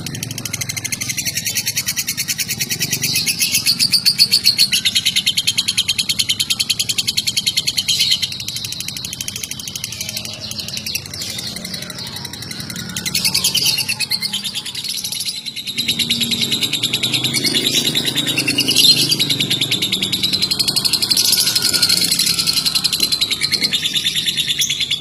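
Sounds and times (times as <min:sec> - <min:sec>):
bird chattering trill: 0:00.0 - 0:25.0.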